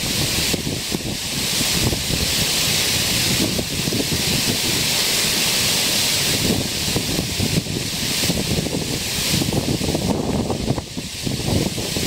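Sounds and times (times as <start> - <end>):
water rushing over a weir: 0.0 - 12.0
wind buffeting microphone: 0.0 - 12.0.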